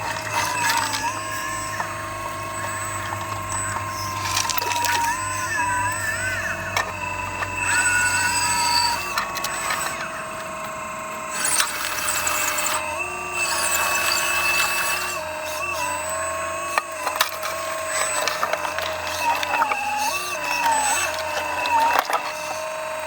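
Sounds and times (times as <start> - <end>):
bucket scraping and clicking: 0.0 - 10.1, 14.4 - 23.0
hydraulic pump whining: 0.0 - 23.0.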